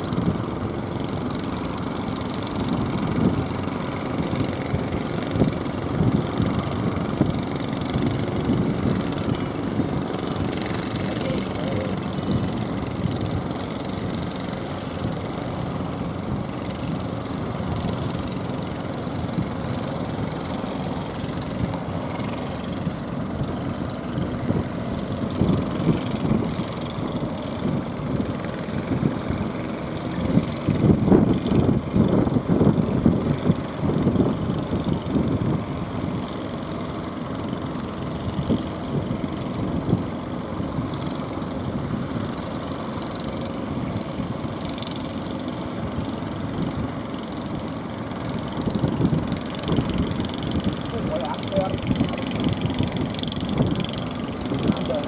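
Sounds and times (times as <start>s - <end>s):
boat engines running: 0.0s - 55.0s.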